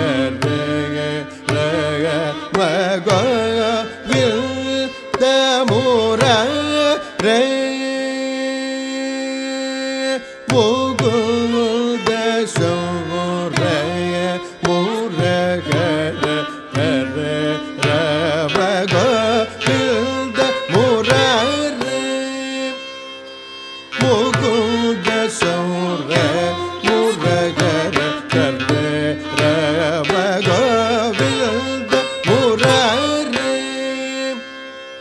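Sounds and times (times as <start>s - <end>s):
person singing ornamented notes: 0.0s - 35.0s
violin: 0.0s - 35.0s.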